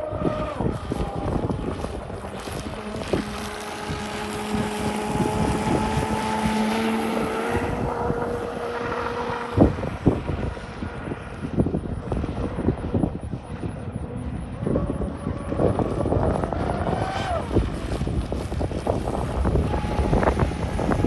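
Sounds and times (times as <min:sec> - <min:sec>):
electric motor whine: 0:00.0 - 0:21.0
wind buffeting microphone: 0:00.0 - 0:21.0.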